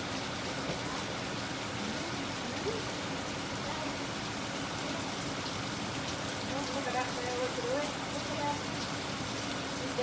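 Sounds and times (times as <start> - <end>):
stir-frying sizzle in a wok: 0.0 - 10.0.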